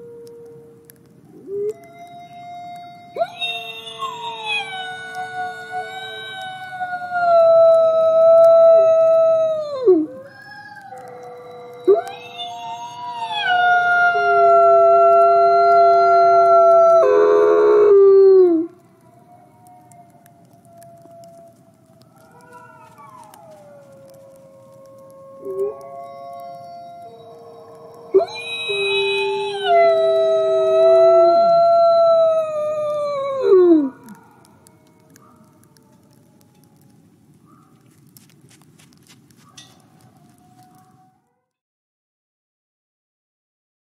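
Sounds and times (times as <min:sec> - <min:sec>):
wolf howling: 0:00.0 - 0:41.4.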